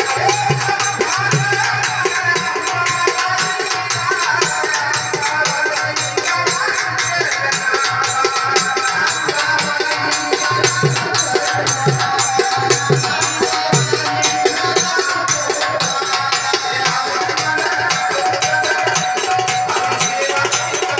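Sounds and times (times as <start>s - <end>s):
hand drums beating: 0.0s - 20.9s.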